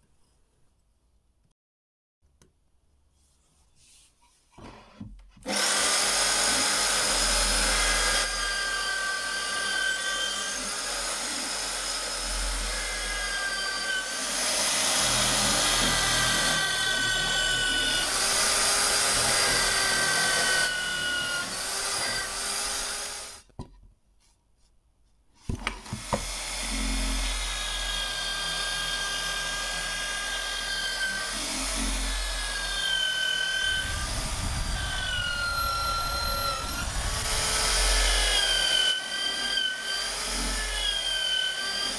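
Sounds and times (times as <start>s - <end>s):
electric drill whining: 5.4s - 23.5s, 25.7s - 41.9s.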